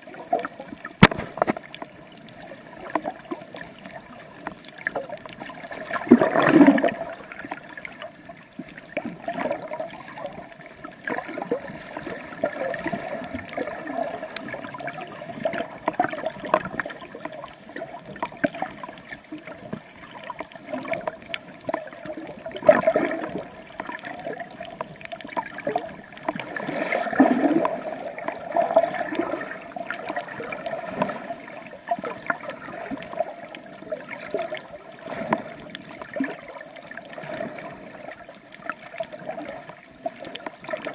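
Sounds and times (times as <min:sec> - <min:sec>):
sea water sloshing and gurgling: 0:00.0 - 0:40.9
water swashes: 0:00.0 - 0:40.9.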